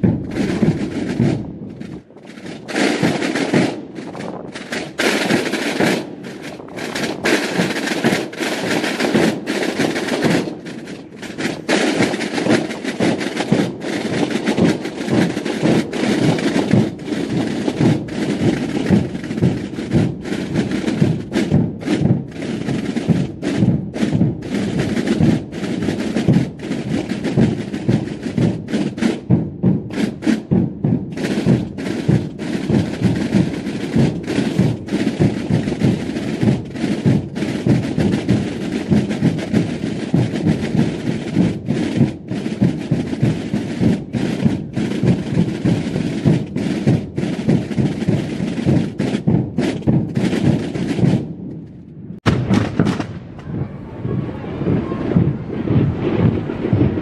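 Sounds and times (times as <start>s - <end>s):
massed drums beating: 0.0s - 51.5s, 52.2s - 57.0s.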